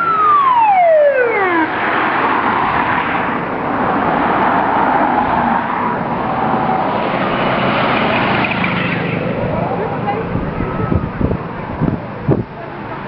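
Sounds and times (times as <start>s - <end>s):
car driving past: 0.8s - 12.0s.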